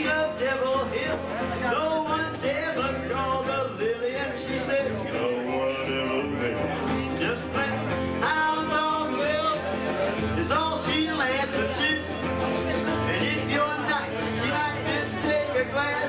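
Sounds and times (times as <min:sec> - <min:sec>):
acoustic guitar chords: 0:00.0 - 0:16.0
man singing: 0:00.0 - 0:16.0.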